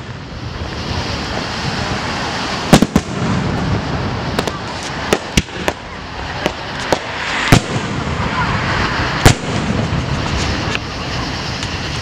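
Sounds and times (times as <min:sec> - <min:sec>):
firework bangs: 0:00.0 - 0:12.0.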